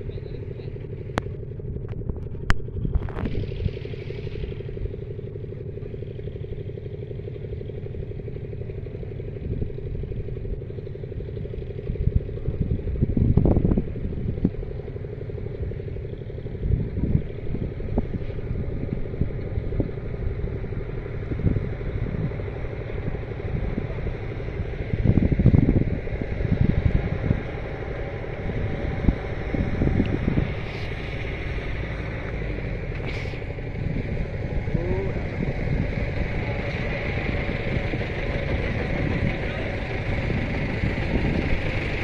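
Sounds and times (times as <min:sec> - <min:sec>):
engine running: 0:00.0 - 0:42.0
low rumbles: 0:00.0 - 0:42.0.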